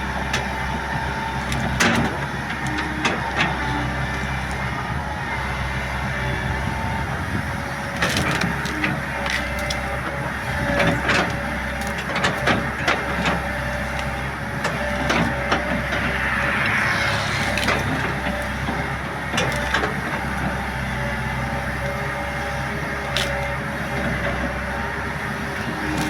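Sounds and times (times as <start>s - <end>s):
excavator running: 0.0s - 26.0s.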